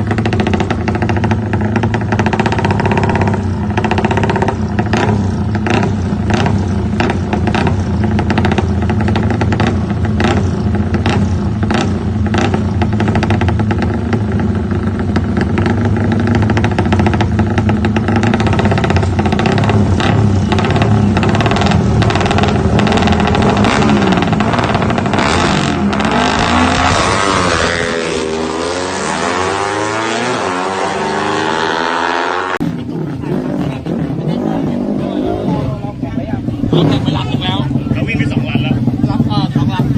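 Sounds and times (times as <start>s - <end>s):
motorcycle accelerating: 0.0s - 39.9s
motorcycle engines revving: 0.0s - 39.9s.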